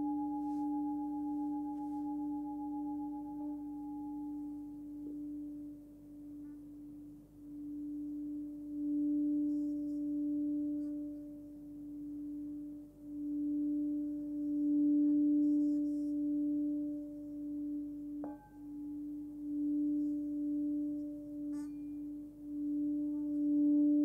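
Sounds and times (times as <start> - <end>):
singing bowl ringing: 0.0 - 24.0.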